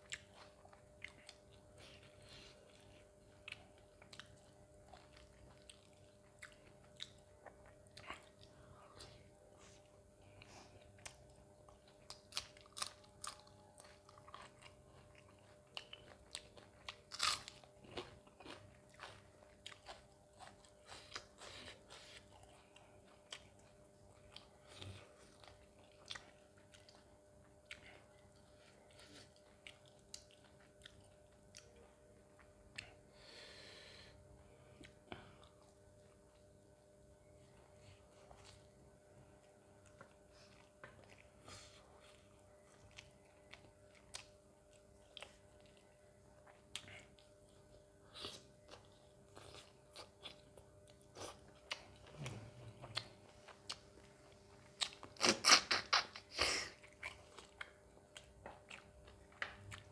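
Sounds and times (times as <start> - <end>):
chewing with wet mouth clicks: 0.0 - 9.2, 9.8 - 33.0, 39.3 - 56.2, 56.8 - 59.9.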